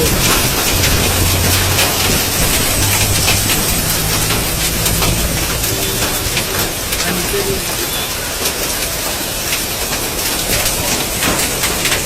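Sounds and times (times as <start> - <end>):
hail striking surfaces: 0.0 - 12.0
heavy rain hiss: 0.0 - 12.0.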